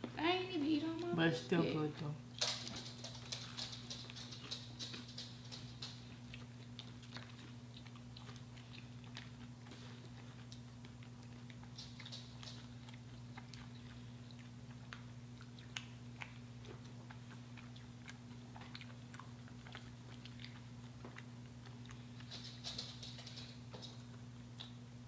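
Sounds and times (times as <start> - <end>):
low electrical hum: 0.0 - 25.0
person chewing and crunching food: 2.2 - 25.0.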